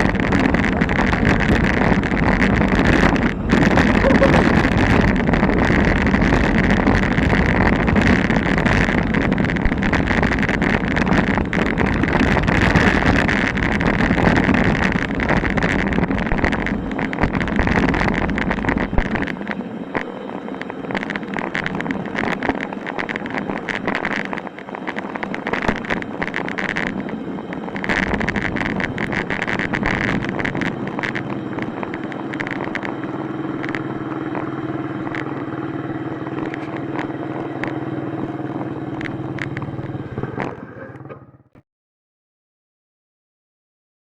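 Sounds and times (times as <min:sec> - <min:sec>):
wind buffeting microphone: 0:00.0 - 0:41.4.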